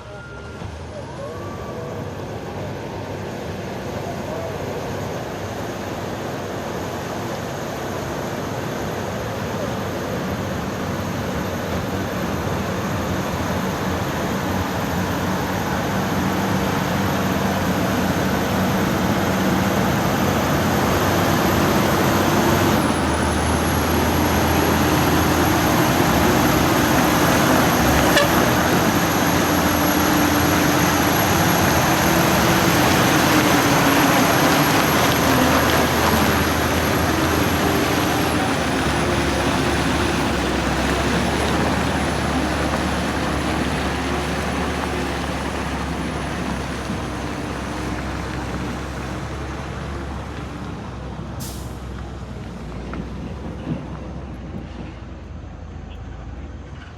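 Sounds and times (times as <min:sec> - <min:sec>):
heavy truck engine running: 0:00.0 - 0:56.9.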